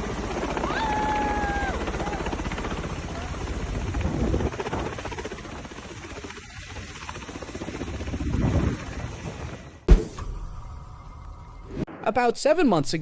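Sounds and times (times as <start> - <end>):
helicopter rotor chop: 0.0 - 10.7.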